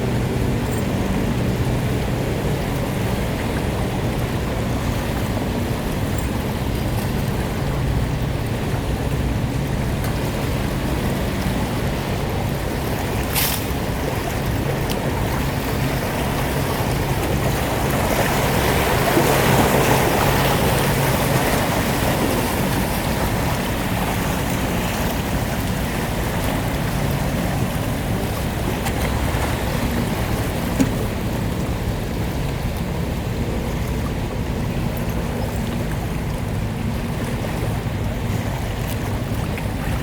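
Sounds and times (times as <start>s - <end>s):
motorboat engine humming: 0.0s - 40.0s
water washing and churning: 0.0s - 40.0s.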